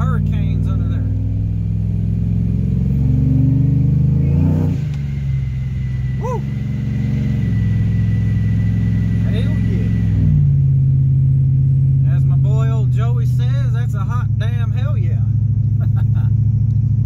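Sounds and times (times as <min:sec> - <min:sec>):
high supercharger whine: 0:00.0 - 0:17.0
truck engine revving: 0:00.0 - 0:17.0.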